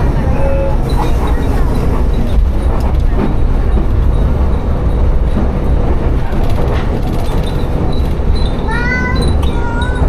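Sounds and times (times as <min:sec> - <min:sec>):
railcar rumbling: 0:00.0 - 0:10.0.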